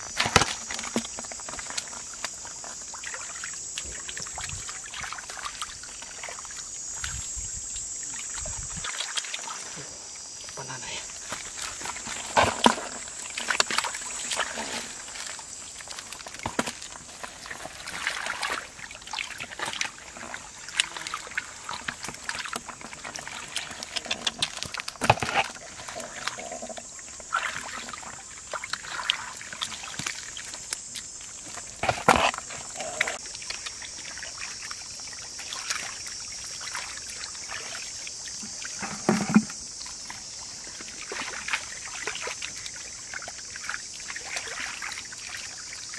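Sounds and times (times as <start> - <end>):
basket splashing in muddy water: 0.0 - 7.2, 10.6 - 45.9.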